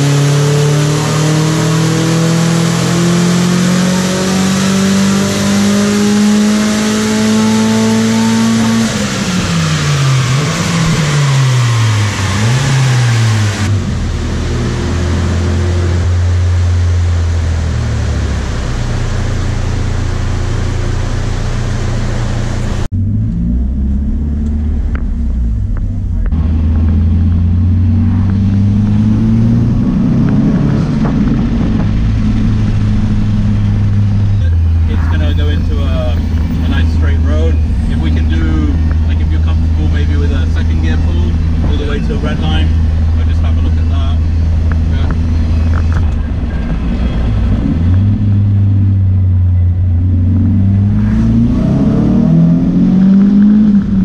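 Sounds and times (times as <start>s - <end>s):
car engine drone from cabin: 0.0s - 54.0s.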